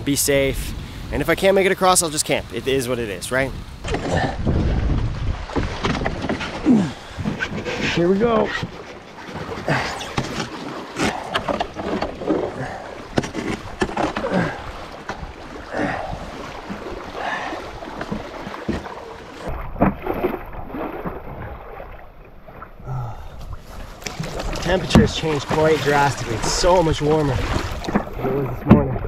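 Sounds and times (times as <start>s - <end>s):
waves lapping against hull: 0.0s - 29.0s
canoe paddle strokes splashing: 3.5s - 29.0s.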